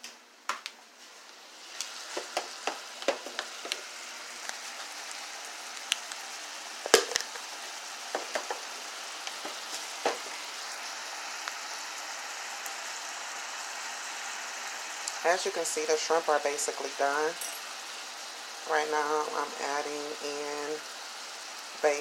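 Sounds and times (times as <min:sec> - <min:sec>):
shrimp sizzling in a skillet: 0:01.4 - 0:22.0.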